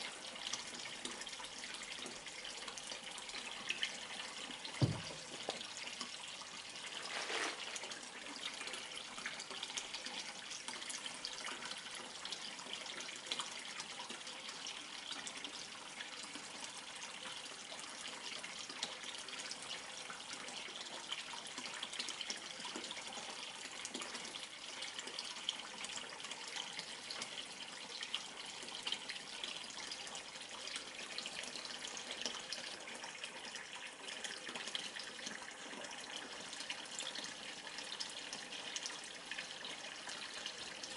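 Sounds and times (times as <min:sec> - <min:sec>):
water stream splashing into pond: 0:00.0 - 0:40.9.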